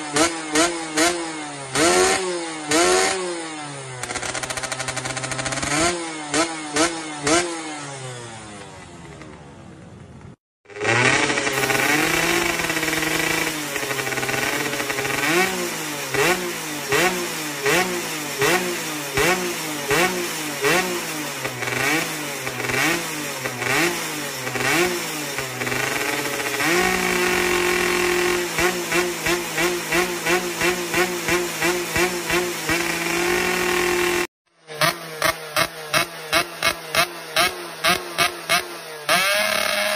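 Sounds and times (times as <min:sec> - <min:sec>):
two-stroke engine revving: 0:00.0 - 0:09.4, 0:10.6 - 0:39.9.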